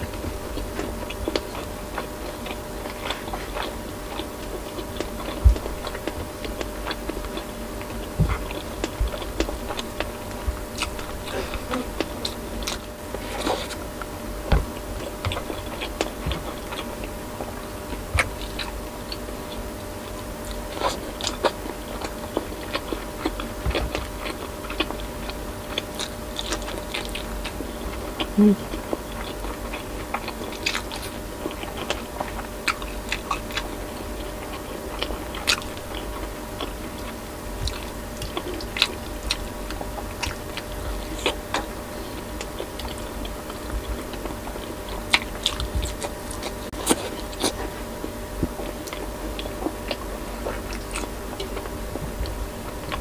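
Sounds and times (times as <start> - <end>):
crunching food: 0.0 - 53.0
faint steady hum: 0.0 - 53.0
chewing and lip smacks: 0.1 - 53.0.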